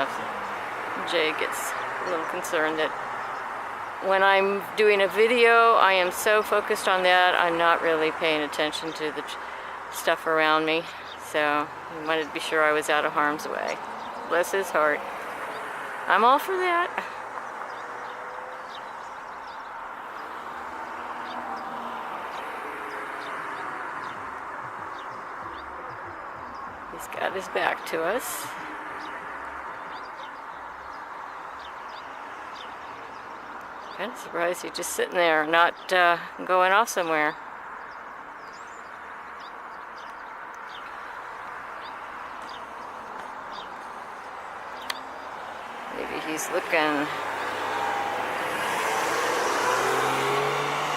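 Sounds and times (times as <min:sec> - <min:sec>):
road traffic hum: 0:00.0 - 0:50.9
small birds chirping: 0:00.0 - 0:50.9.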